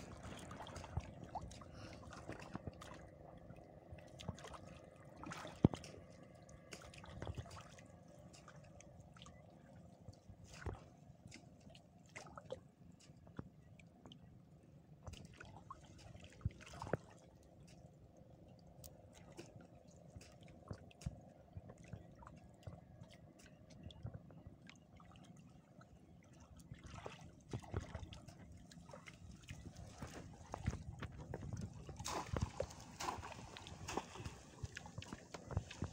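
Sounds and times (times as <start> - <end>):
water splashing and dripping: 0.0 - 14.2, 15.0 - 35.9.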